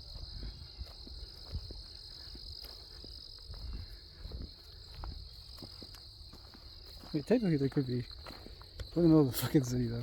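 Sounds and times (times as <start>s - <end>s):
footsteps on a trail: 0.0s - 10.0s
insects or frogs calling: 0.0s - 10.0s.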